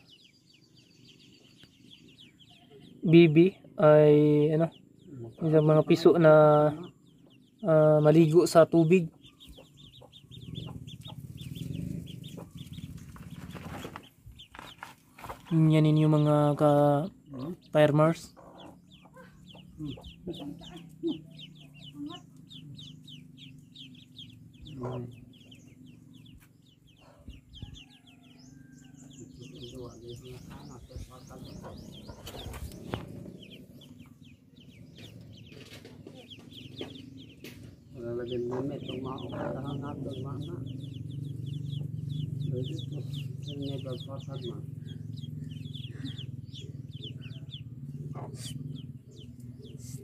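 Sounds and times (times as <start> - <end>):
ducklings peeping: 0.0 - 50.0
hen clucking: 1.5 - 50.0.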